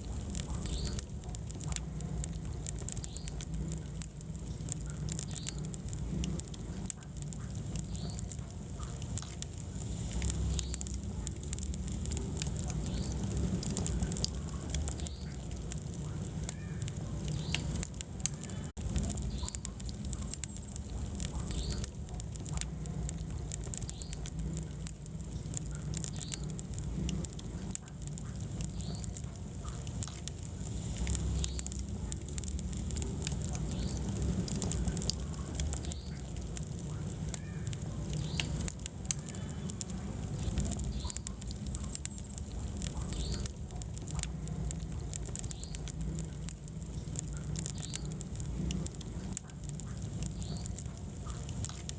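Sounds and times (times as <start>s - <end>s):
fire rumbling: 0.0s - 51.9s
logs crackling and popping: 0.0s - 51.9s.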